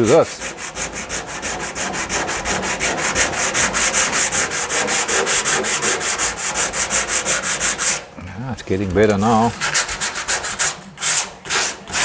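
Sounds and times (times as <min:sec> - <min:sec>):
pad scrubbing metal panel: 0:00.0 - 0:08.1, 0:09.2 - 0:12.0.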